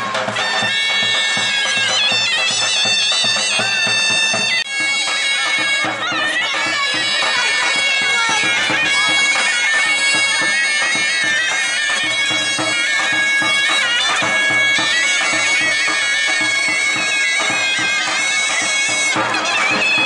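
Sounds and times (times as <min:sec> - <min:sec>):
double-reed pipes playing folk tune: 0:00.0 - 0:20.0
large drum beating: 0:00.0 - 0:20.0.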